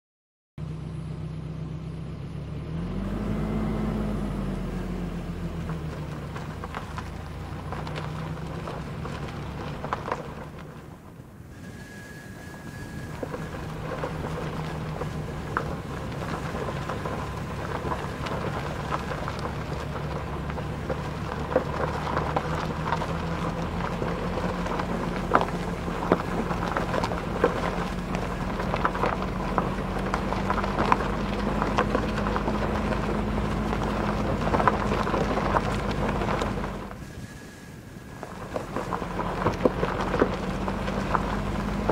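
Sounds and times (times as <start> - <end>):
car engine running: 0.6 - 41.9
tyres crackling on dirt track: 0.6 - 41.9.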